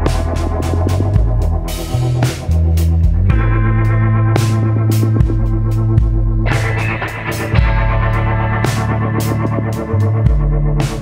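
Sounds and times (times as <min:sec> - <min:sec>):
guitar: 0:00.0 - 0:11.0.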